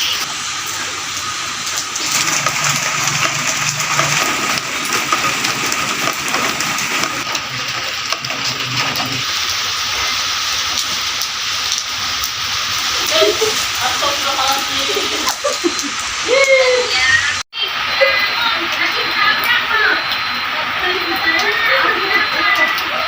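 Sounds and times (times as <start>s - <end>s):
light drizzle hissing: 0.0s - 23.0s.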